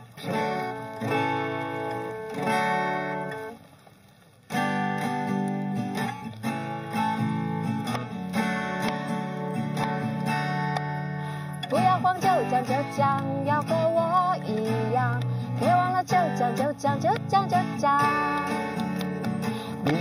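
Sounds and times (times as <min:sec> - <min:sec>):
acoustic guitar strumming chords: 0:00.0 - 0:03.6, 0:04.5 - 0:20.0.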